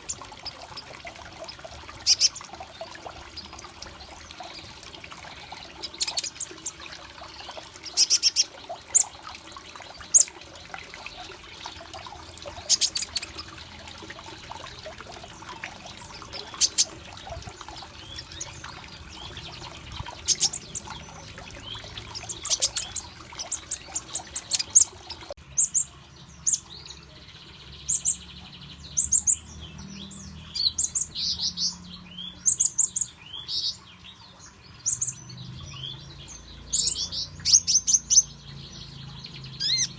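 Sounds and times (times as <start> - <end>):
bird chirping: 0.0 - 10.3, 11.0 - 13.6, 15.2 - 39.9.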